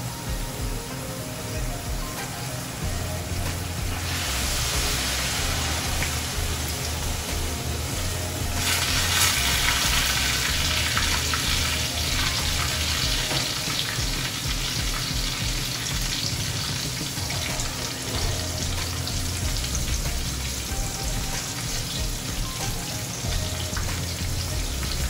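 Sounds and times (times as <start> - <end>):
eggplant sizzling in a pan: 0.0 - 25.0.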